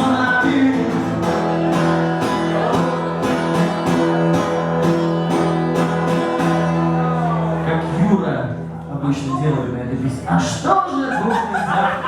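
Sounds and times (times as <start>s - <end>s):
guitar strumming: 0.0s - 10.2s.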